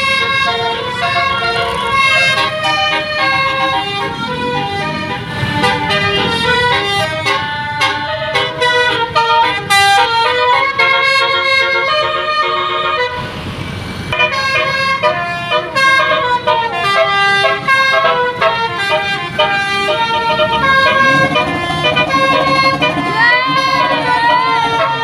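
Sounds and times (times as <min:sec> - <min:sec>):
musical horns playing melodies: 0:00.0 - 0:13.3, 0:14.1 - 0:25.0.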